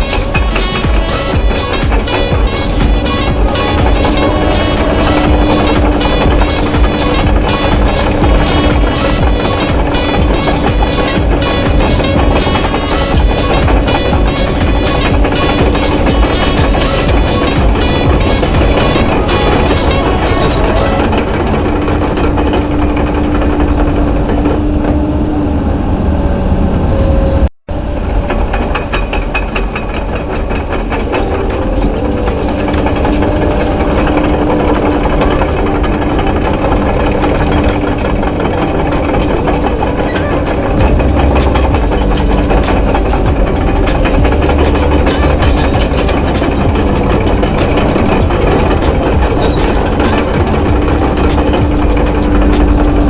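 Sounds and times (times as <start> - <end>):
low engine rumble: 0.0 - 53.0.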